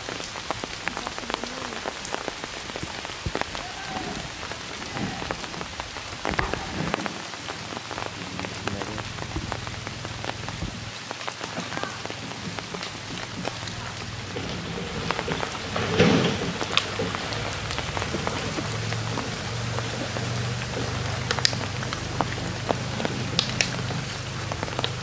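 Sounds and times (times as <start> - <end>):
rain falling on pond: 0.0 - 25.0.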